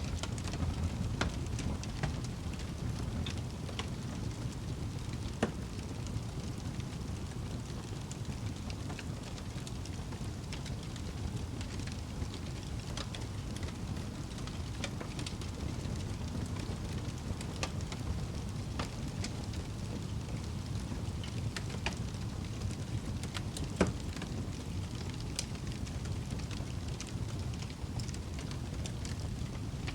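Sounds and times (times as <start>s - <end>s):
fire crackling and popping: 0.0s - 29.9s
fire flames rumbling: 0.0s - 29.9s.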